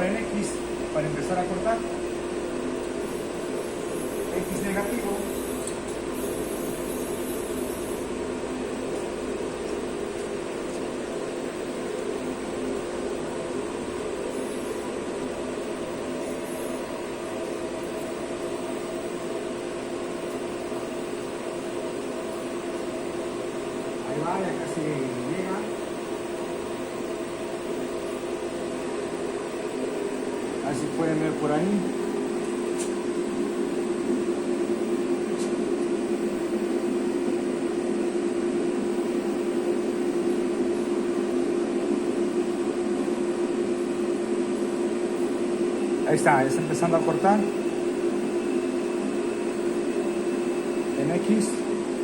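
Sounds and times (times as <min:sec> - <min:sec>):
lathe humming: 0:00.0 - 0:52.0.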